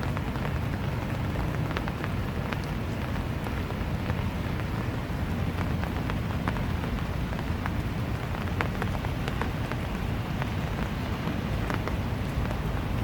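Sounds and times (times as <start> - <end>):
raindrops ticking on surfaces: 0.0 - 13.0
steady rain hissing: 0.0 - 13.0.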